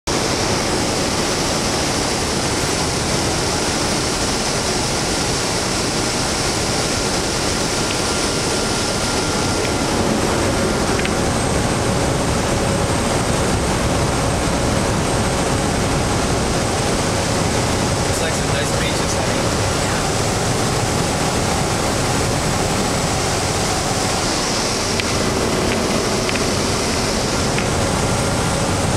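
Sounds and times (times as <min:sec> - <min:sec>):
faint steady whine: 0:00.1 - 0:28.9
propeller plane cabin engine noise: 0:00.1 - 0:28.9.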